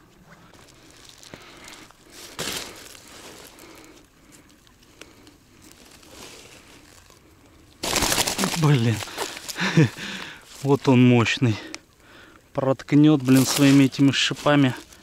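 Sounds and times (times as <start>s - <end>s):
rustling and crinkling handling noise: 0.4s - 11.8s, 13.0s - 15.0s.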